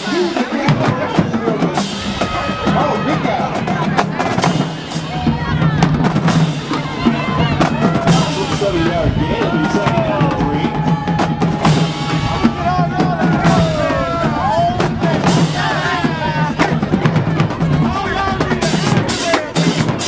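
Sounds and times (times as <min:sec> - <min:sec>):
drum-driven music: 0:00.0 - 0:20.0
voices calling and shouting: 0:00.0 - 0:20.0.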